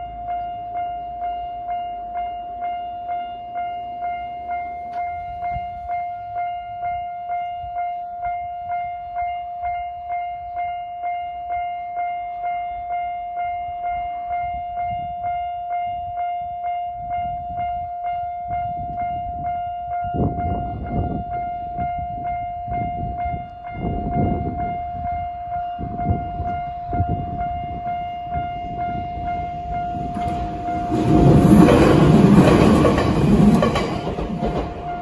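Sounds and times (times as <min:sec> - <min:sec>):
railway crossing alarm ringing: 0:00.0 - 0:35.0.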